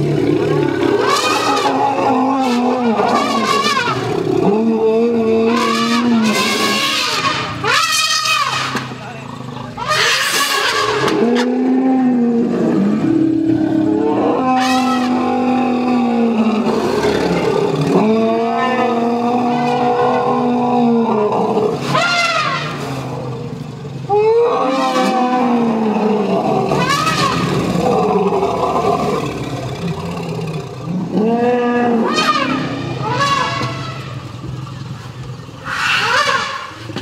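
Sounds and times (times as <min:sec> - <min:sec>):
elephants roaring: 0:00.0 - 0:37.0
elephants trumpeting: 0:00.0 - 0:37.0.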